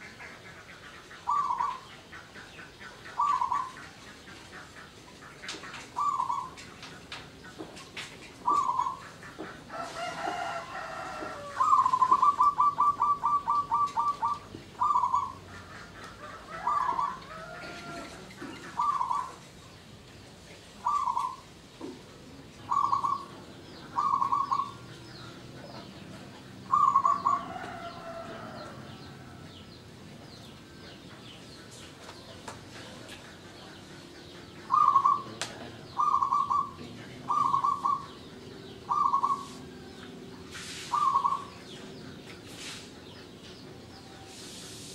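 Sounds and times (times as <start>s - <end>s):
dove cooing: 0.0s - 7.1s, 8.4s - 19.4s, 20.8s - 21.6s, 22.6s - 29.6s, 32.2s - 42.7s
faint bird chirping: 0.0s - 44.9s.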